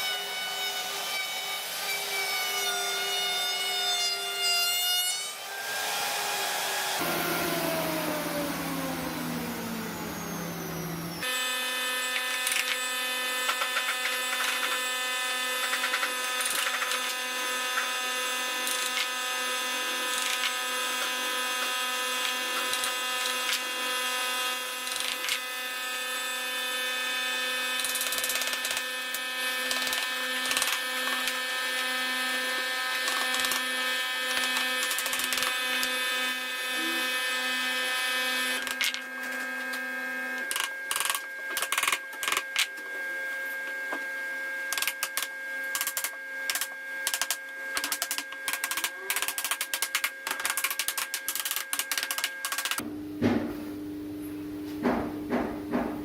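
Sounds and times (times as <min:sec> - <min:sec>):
power tool motor running on wood: 0:00.0 - 0:52.8.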